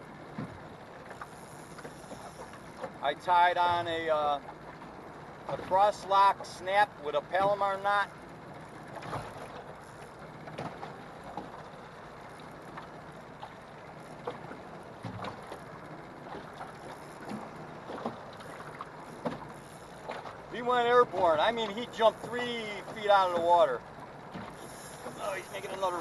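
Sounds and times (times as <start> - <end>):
small waves lapping against boat: 0.0 - 26.0.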